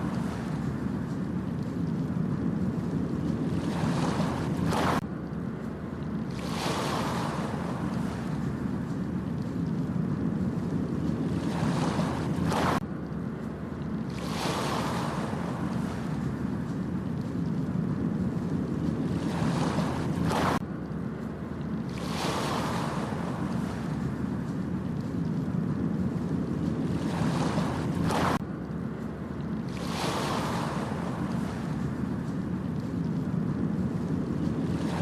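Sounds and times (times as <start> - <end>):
ocean waves breaking on beach: 0.0 - 12.9, 13.9 - 20.6, 21.2 - 35.0.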